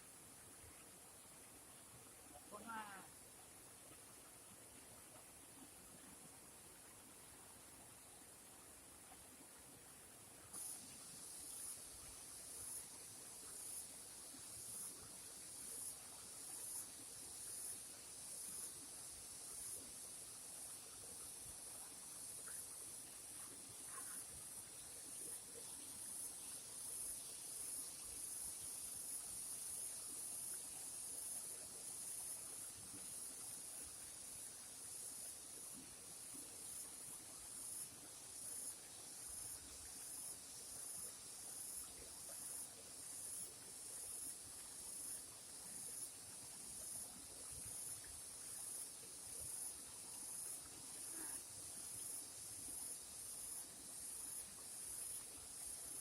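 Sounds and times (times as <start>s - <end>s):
insects chirring: 2.4s - 3.2s, 10.5s - 56.0s.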